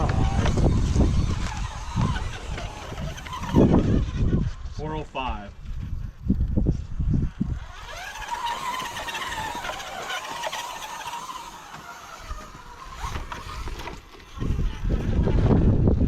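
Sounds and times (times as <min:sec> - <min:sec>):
rc car motor and gears whining: 0:00.0 - 0:16.0
wind buffeting microphone: 0:00.0 - 0:16.0.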